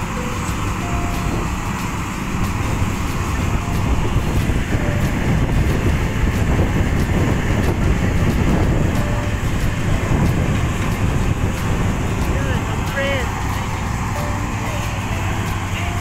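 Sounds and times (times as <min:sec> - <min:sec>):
combine harvester mechanical rumble: 0:00.0 - 0:16.0.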